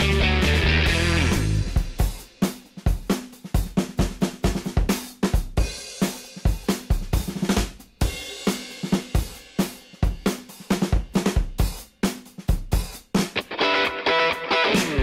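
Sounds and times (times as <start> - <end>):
drum kit fast beat: 0.0 - 13.5, 14.5 - 15.0.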